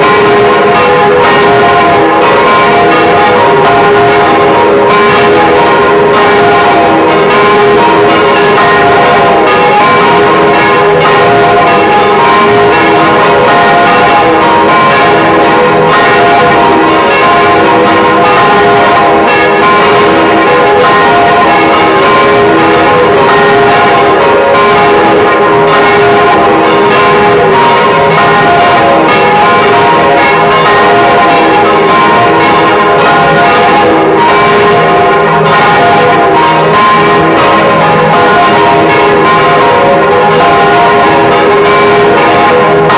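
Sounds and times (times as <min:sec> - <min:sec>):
church bells ringing in peal: 0:00.0 - 0:42.9.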